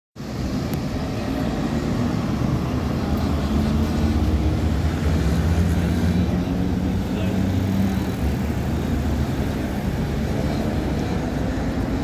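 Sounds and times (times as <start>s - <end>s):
traffic rumble: 0.2s - 12.0s
trolleybus passing: 0.2s - 12.0s.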